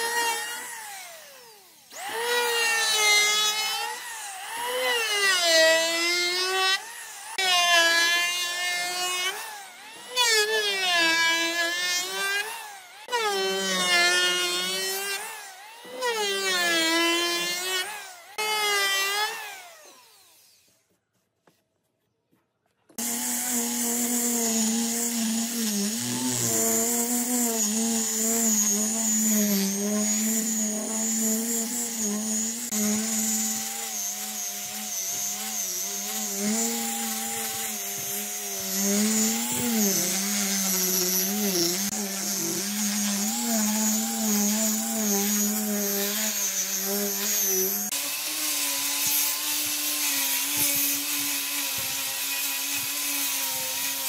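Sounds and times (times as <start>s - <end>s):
angle grinder sanding wood: 0.0s - 20.7s, 23.0s - 54.0s.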